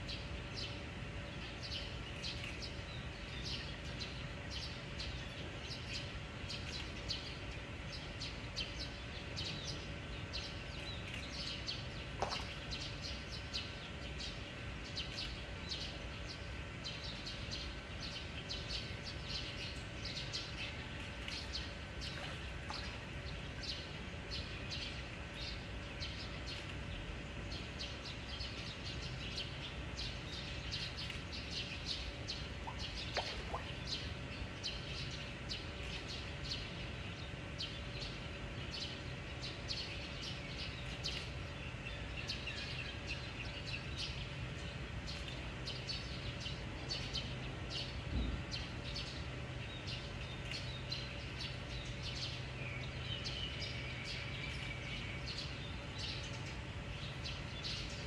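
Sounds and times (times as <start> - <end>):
small birds chirping: 0.0 - 58.0
steady low hum: 0.0 - 58.0.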